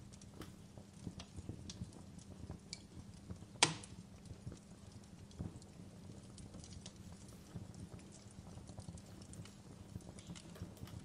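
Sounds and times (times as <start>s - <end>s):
fireplace crackling: 0.0s - 11.0s.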